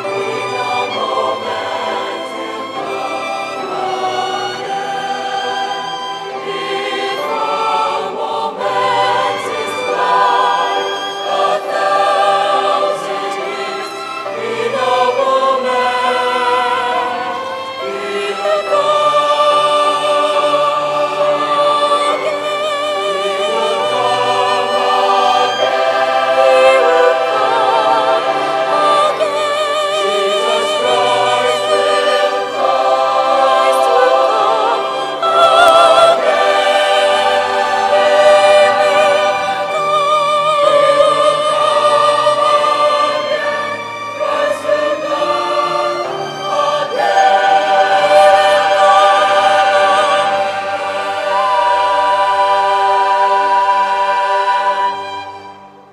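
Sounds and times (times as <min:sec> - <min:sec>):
mixed choir singing: 0:00.0 - 0:55.9
orchestral accompaniment: 0:00.0 - 0:55.9.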